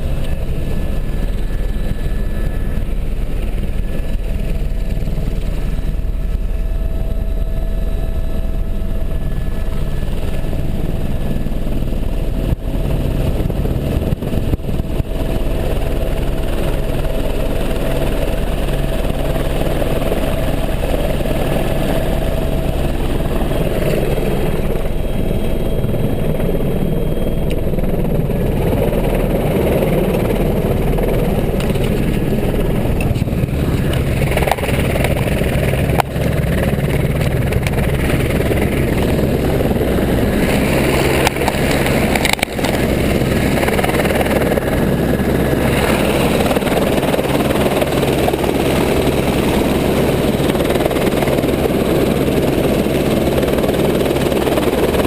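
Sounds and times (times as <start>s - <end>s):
helicopter turbine and rotor drone: 0.0s - 55.0s.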